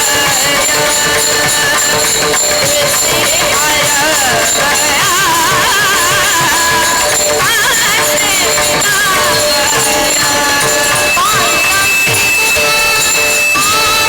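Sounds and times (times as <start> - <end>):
jingling percussion: 0.0 - 14.0
person singing devotional melody: 0.0 - 14.0.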